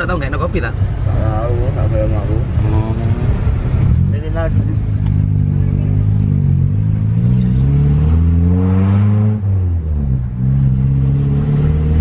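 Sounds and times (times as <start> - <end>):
car engine accelerating: 0.6 - 12.0.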